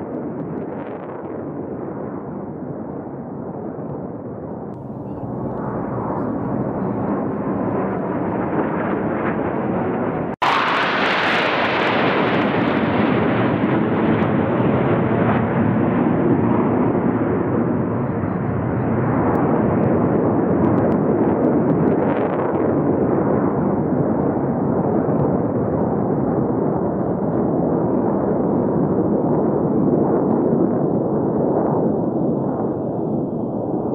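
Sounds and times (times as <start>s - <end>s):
military jets passing overhead: 4.8s - 33.9s.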